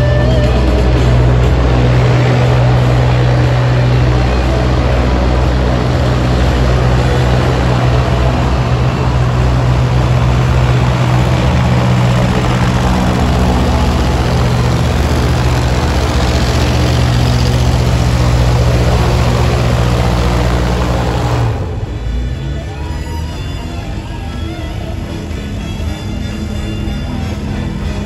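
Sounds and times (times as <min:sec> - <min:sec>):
airboat engine and propeller: 0:00.0 - 0:28.0.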